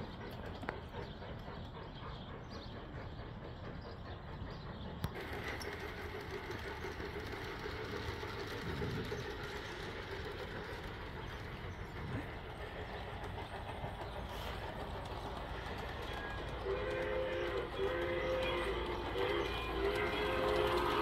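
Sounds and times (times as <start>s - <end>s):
model train running on track: 0.0s - 21.0s.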